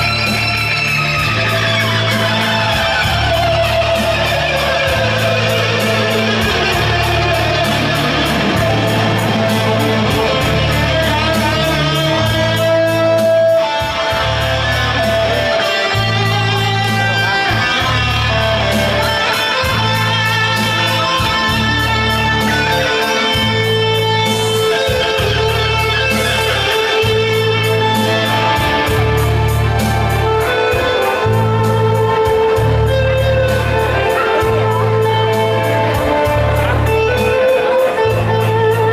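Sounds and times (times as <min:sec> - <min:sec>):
amplified plucked-string melody: 0:00.0 - 0:38.9
bass line of held notes: 0:00.0 - 0:38.9.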